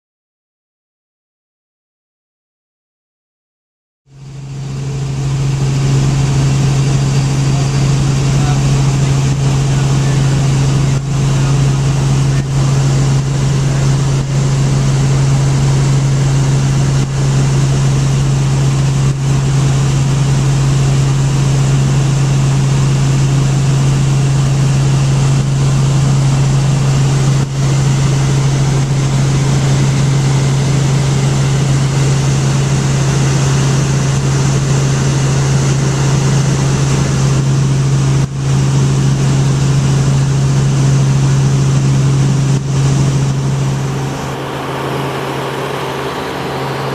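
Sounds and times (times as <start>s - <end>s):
helicopter engine and rotor drone: 4.1s - 46.9s.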